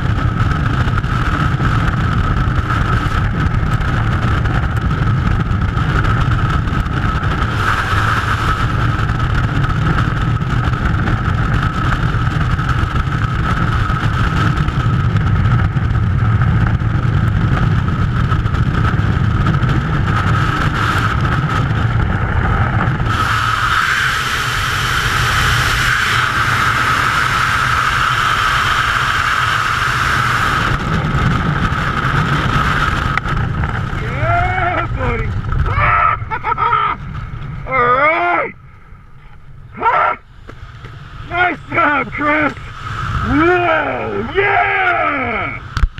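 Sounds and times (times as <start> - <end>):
freefall wind buffeting microphone: 0.0 - 45.9.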